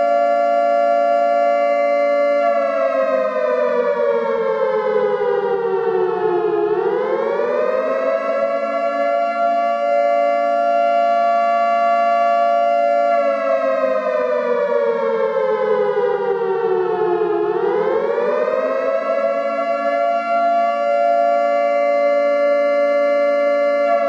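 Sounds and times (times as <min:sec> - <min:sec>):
tornado warning siren: 0:00.0 - 0:24.0.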